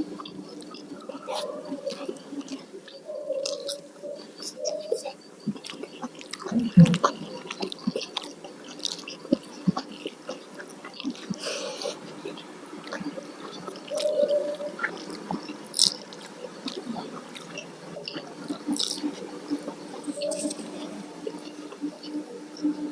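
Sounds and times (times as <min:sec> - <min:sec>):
chewing and wet mouth noises: 0:00.1 - 0:22.2.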